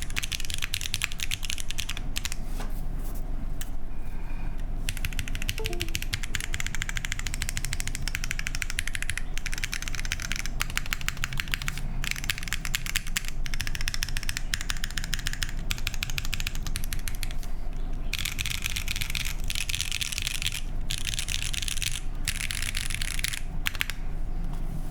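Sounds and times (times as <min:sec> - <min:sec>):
mechanical keyboard typing clacks: 0:00.0 - 0:02.4, 0:04.9 - 0:17.4, 0:18.1 - 0:24.0.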